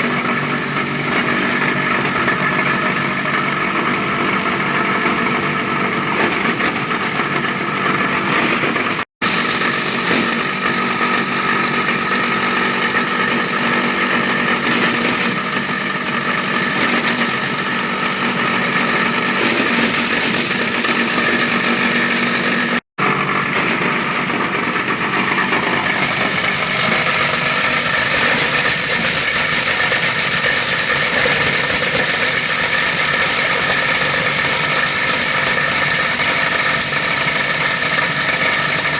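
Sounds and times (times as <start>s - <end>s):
plastic shredder drone: 0.0s - 38.9s.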